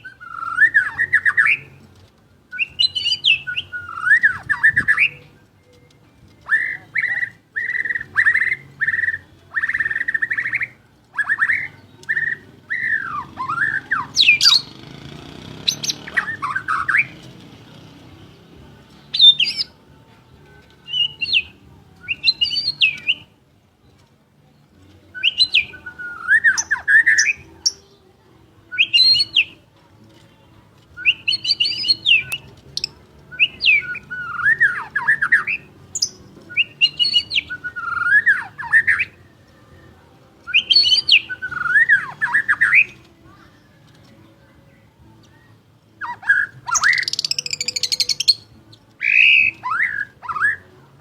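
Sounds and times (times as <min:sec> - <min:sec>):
bird singing whistled notes: 0:00.0 - 0:01.9, 0:02.5 - 0:15.0, 0:15.6 - 0:19.8, 0:20.5 - 0:23.4, 0:25.0 - 0:29.6, 0:31.0 - 0:43.3, 0:45.0 - 0:50.8.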